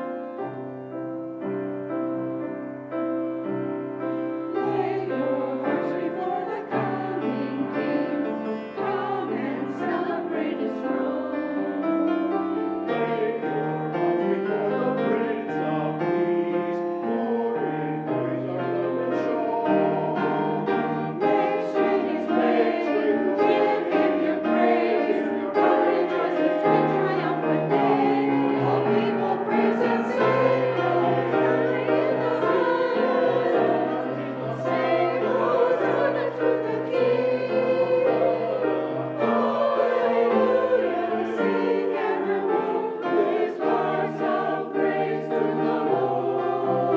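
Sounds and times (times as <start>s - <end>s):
choir singing: 0.0s - 46.9s
piano accompaniment: 0.0s - 46.9s.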